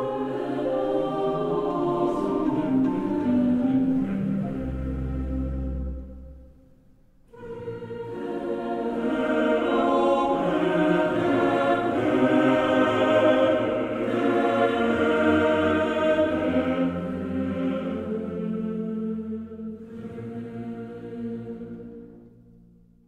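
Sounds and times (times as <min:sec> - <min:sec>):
choir singing held chords: 0:00.0 - 0:06.6, 0:07.3 - 0:22.8.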